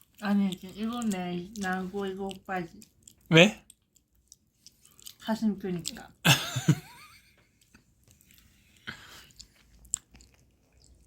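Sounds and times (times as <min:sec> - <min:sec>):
person chewing and crunching food: 0:00.0 - 0:11.0.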